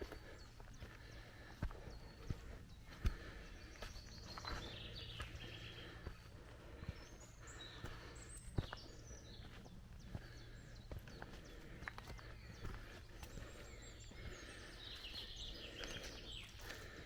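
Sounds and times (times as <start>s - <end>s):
footsteps on trail: 0.0s - 17.0s
songbirds chirping and twittering: 0.0s - 17.0s.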